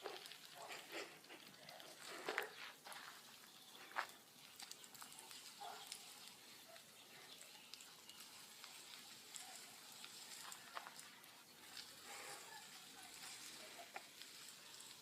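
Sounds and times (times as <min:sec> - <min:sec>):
bonfire crackling: 0:00.0 - 0:15.0
fire pops: 0:00.0 - 0:15.0.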